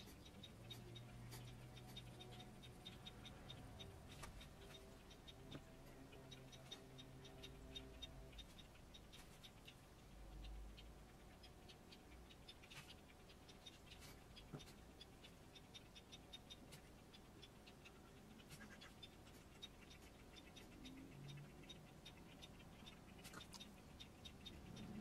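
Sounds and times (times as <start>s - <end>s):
faint ticking: 0.0s - 25.0s.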